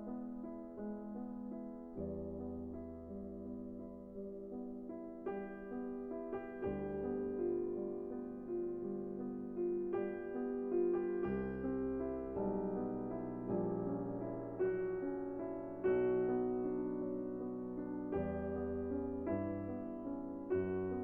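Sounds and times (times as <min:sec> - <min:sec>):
gentle piano chords: 0:00.0 - 0:21.0.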